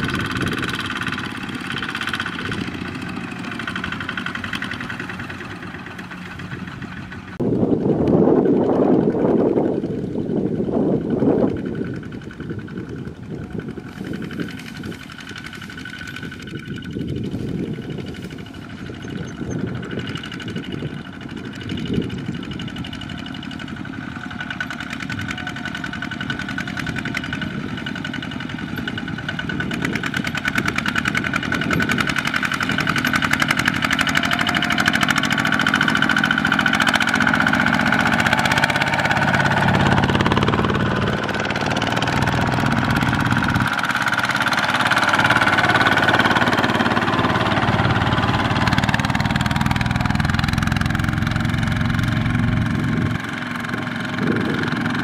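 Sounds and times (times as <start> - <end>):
diesel tractor engines chugging: 0.0 - 55.0.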